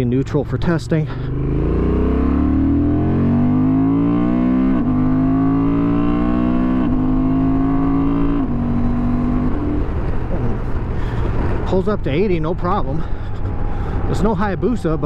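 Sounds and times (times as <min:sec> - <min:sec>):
motorcycle engine accelerating: 0:00.6 - 0:15.0.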